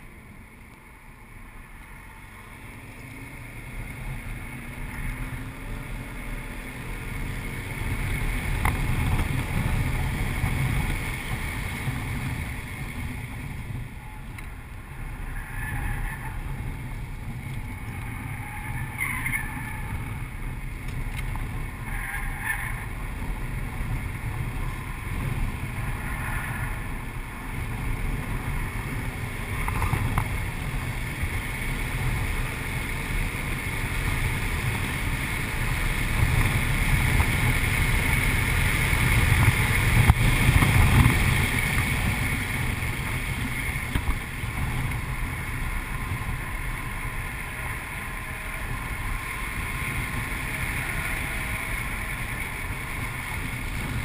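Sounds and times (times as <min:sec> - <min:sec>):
car engine pulling hard: 0:00.0 - 0:54.0
road and wind noise: 0:00.0 - 0:54.0.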